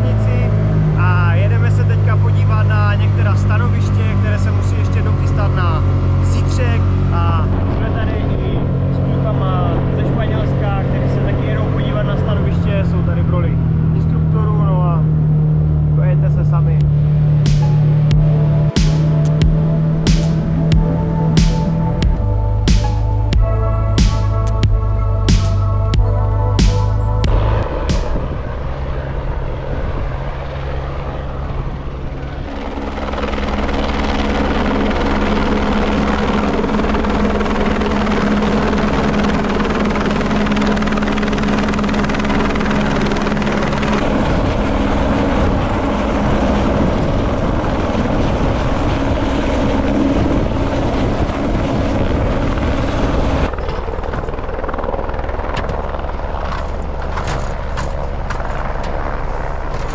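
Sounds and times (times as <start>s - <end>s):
helicopter rotor and turbine: 0.0s - 59.9s.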